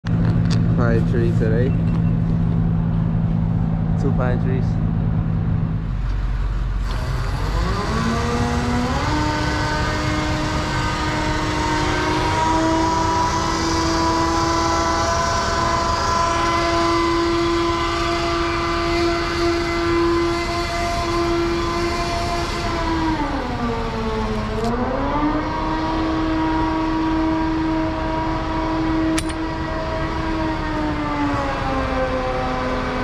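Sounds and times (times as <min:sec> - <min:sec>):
crane truck engine and hydraulics whining: 0:00.1 - 0:33.0.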